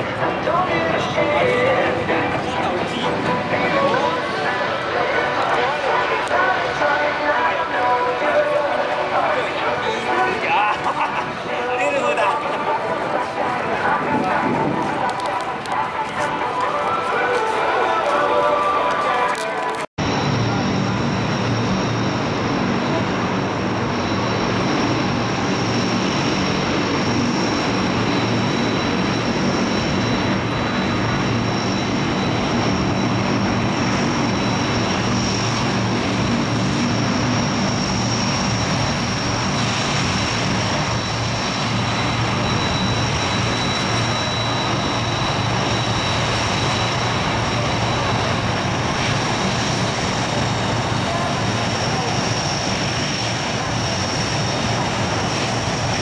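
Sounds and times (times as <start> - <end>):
aircraft engine whining: 0.0 - 56.0.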